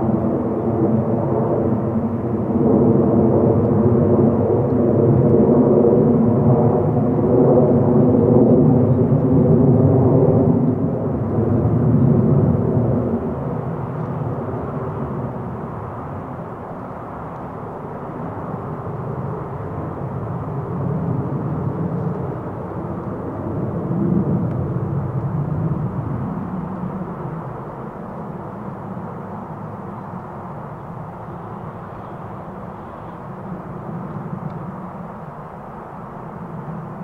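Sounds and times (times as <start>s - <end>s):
jet engine rumble: 0.0s - 37.0s.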